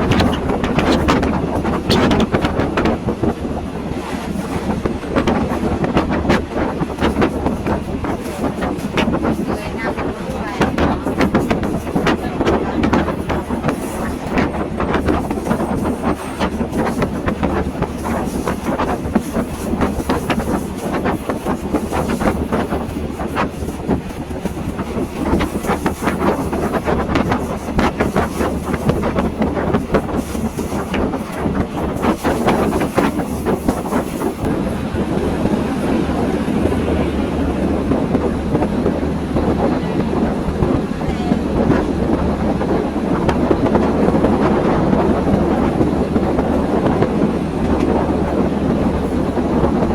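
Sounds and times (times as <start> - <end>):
train rumbling on rails: 0.0 - 49.9.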